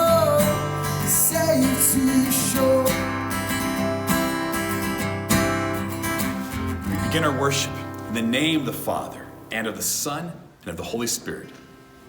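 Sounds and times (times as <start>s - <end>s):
strummed acoustic guitar: 0.0s - 9.7s
worship band music: 0.0s - 10.0s.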